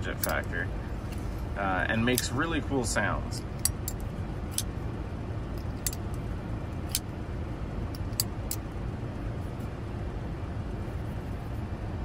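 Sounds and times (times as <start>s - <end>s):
car rumble: 0.0s - 12.0s.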